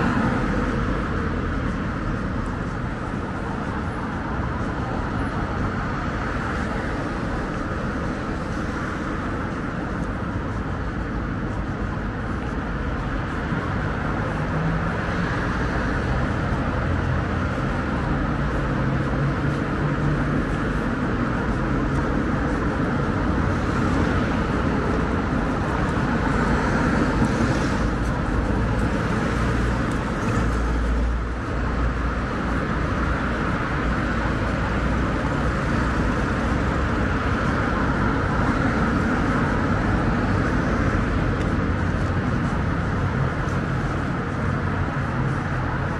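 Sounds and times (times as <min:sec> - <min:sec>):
cars passing on road: 0:00.0 - 0:45.9.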